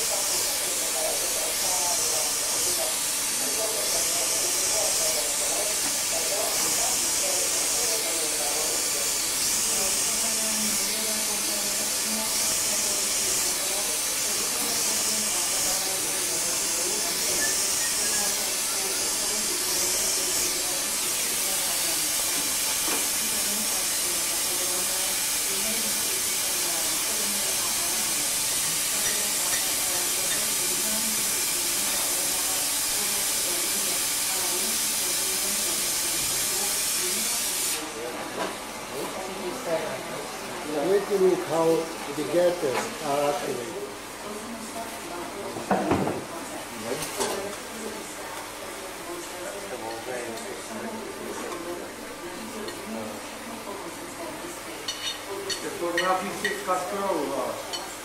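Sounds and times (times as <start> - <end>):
faint voices: 0.0 - 58.0.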